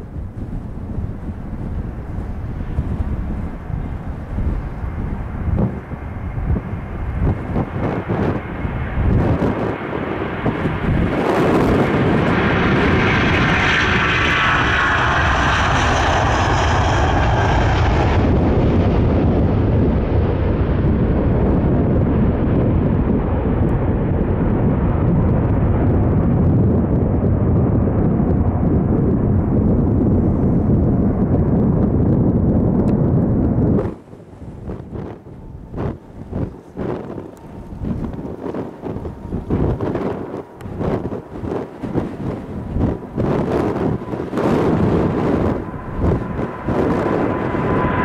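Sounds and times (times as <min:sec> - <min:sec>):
high jet engine whine: 0:00.0 - 0:48.0
jet airliner passing overhead: 0:00.0 - 0:48.0.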